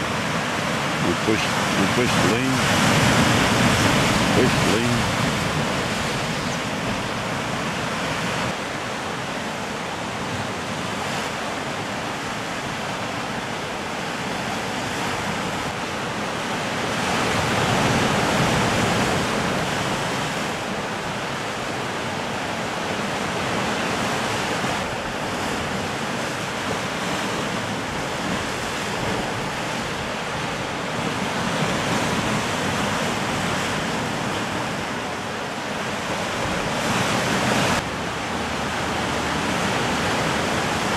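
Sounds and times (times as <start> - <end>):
surf breaking over rocks: 0.0 - 40.9.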